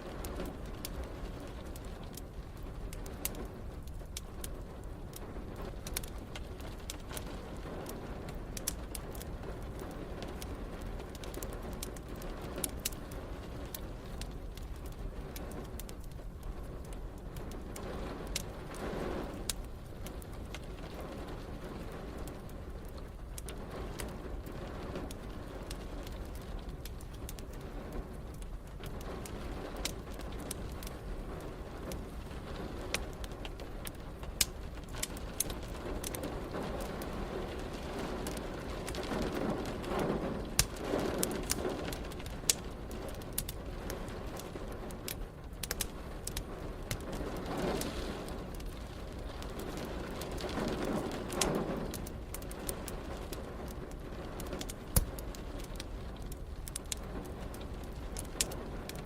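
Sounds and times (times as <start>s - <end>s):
fireplace crackling and popping: 0.0s - 59.0s
rain: 0.0s - 59.0s.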